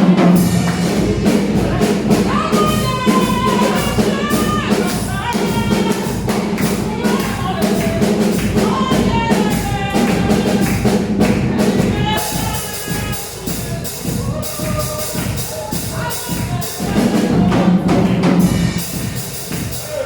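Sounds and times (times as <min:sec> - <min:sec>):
drum beat: 0:00.0 - 0:20.0
people singing: 0:00.0 - 0:20.0.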